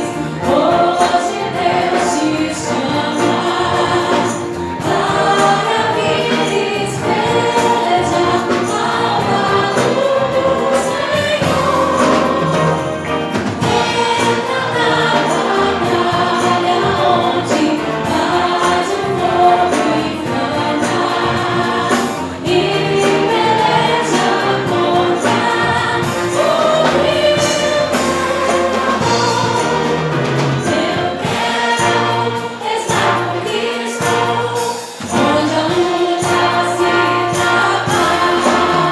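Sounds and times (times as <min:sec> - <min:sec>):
choir singing gospel: 0:00.0 - 0:38.9.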